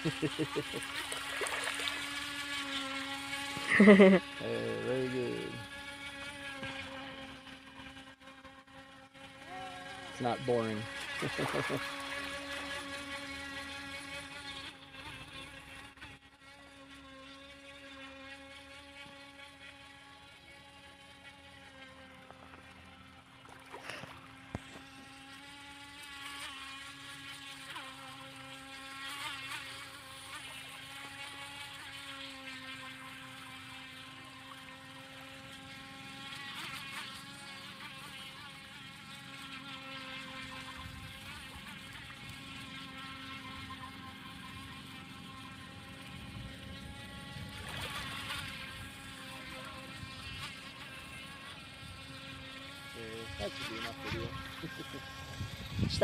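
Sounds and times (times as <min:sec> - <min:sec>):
rc boat motor whining: 0:00.0 - 0:56.0.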